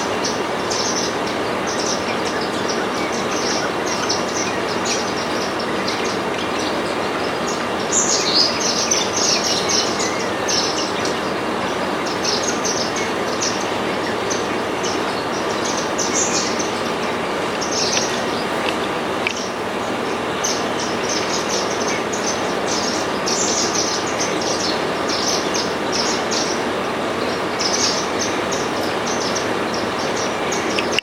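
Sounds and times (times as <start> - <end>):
low rumbling background noise: 0.0 - 31.0
small birds chirping: 0.0 - 31.0.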